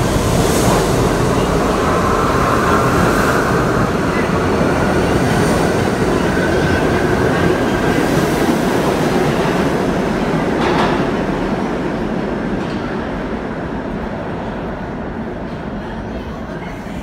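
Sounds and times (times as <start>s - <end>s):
subway train wheels rumbling on rail: 0.0s - 17.0s.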